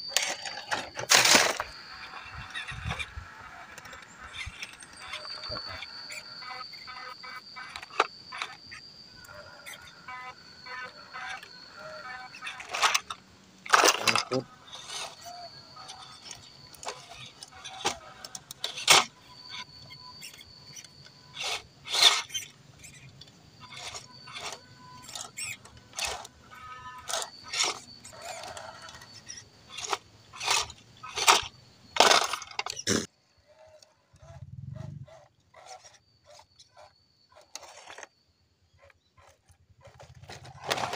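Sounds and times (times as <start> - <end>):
tyres scraping on rock: 0.0 - 8.6, 9.3 - 38.2, 38.8 - 40.9
small electric motors whining: 0.0 - 40.9.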